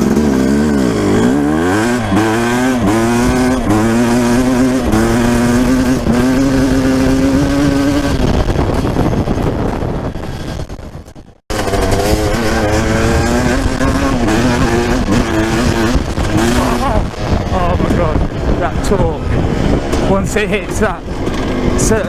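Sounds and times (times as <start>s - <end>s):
dirt bike engine accelerating: 0.0s - 22.0s.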